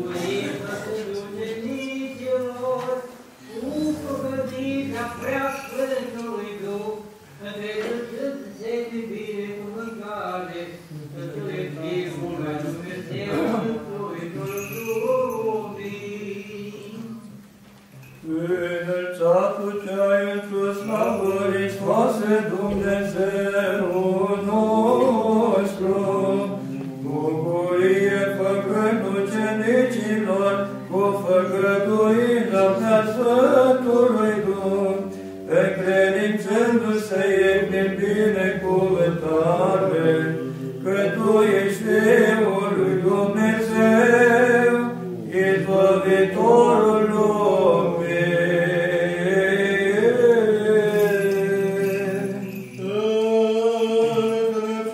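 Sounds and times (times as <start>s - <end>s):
liturgical chant by several voices: 0.0s - 54.9s.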